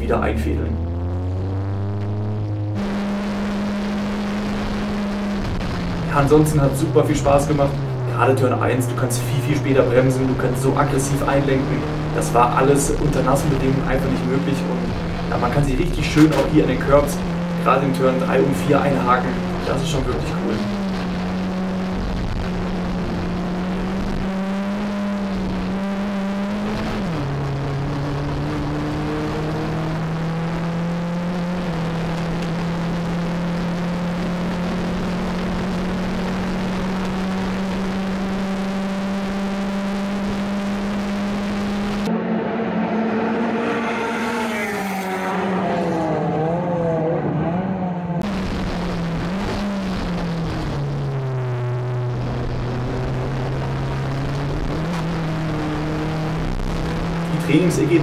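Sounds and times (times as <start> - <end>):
race cars passing: 0.0 - 3.8, 4.4 - 32.6, 37.1 - 58.0
race car engine at high revs: 0.0 - 58.0.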